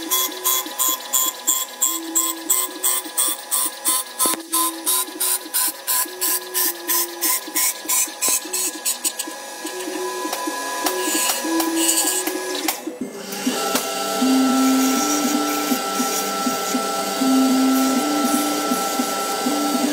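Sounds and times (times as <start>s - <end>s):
wood lathe motor whining: 0.0s - 19.9s.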